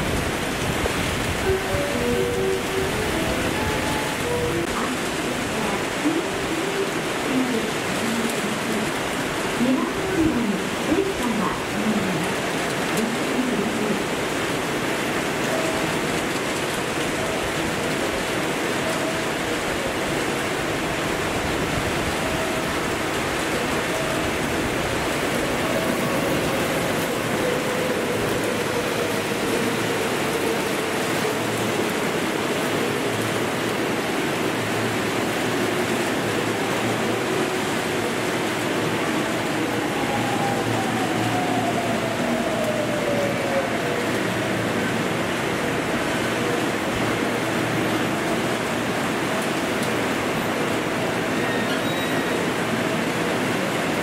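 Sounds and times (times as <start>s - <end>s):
electric train running: 0.0s - 54.0s
heavy rain pouring: 0.0s - 54.0s.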